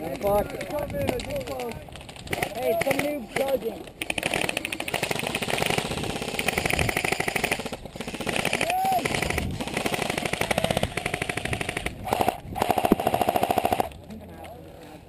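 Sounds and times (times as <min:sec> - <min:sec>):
airsoft guns firing bursts: 0:00.1 - 0:14.0.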